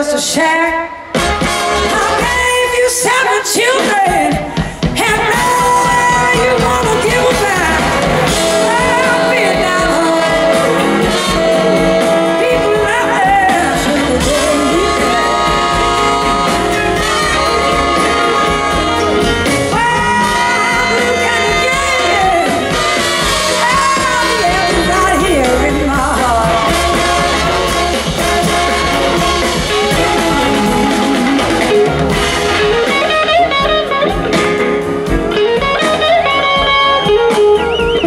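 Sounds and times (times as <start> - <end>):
drums: 0.0 - 38.0
electric guitar lead: 0.2 - 38.0
bass guitar: 1.1 - 3.2, 3.8 - 38.0.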